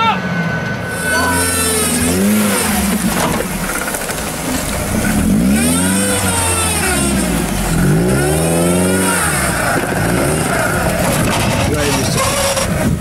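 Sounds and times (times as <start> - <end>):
car engine revving under load: 0.9 - 13.0.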